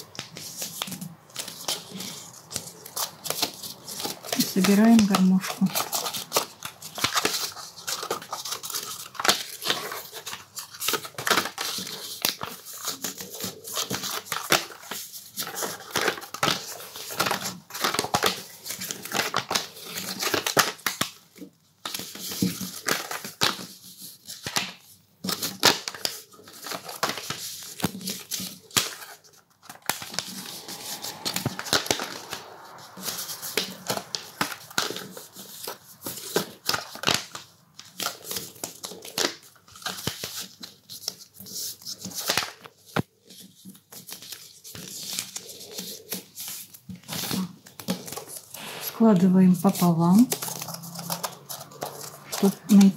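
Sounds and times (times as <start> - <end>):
paper rustling and crackling: 0.0 - 52.9.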